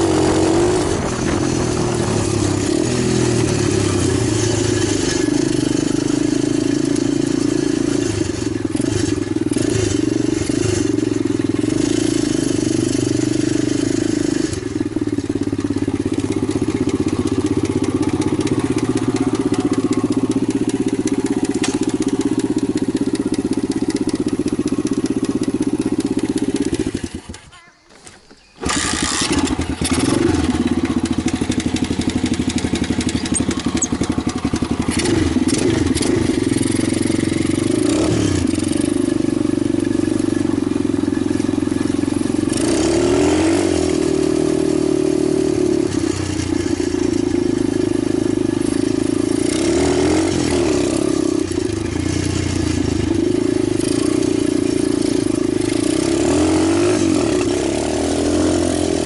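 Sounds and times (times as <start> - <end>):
small motorbike engine revving: 0.0 - 59.0.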